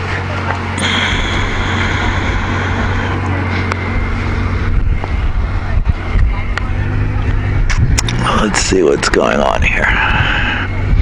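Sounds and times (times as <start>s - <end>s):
high whine: 0.0s - 11.0s
low engine hum: 0.0s - 11.0s.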